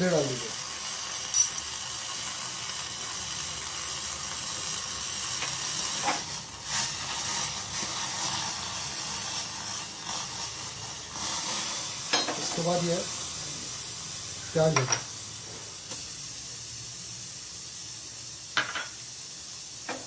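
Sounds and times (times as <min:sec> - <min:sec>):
water sizzling in a hot pan: 0:00.0 - 0:20.0.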